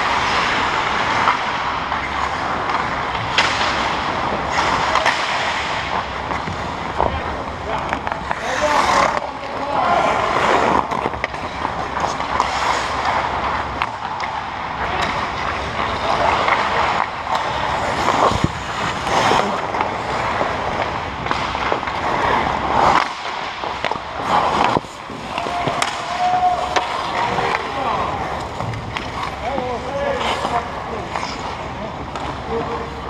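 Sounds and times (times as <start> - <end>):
skates scraping ice: 0.0 - 33.0.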